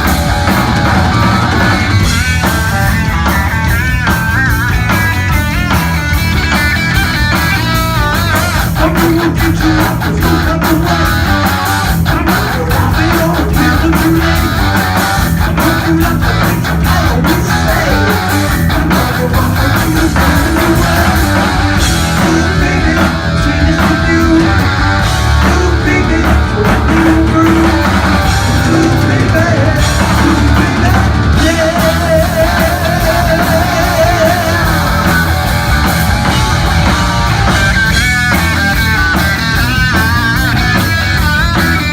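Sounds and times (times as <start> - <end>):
heavy metal band playing: 0.0 - 41.9.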